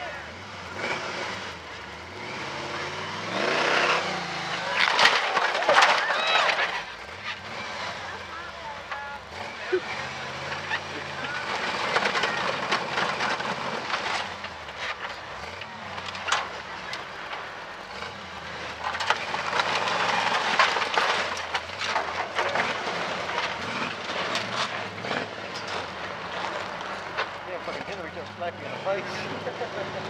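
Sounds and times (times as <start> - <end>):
buggy engine revving: 0.0 - 30.0.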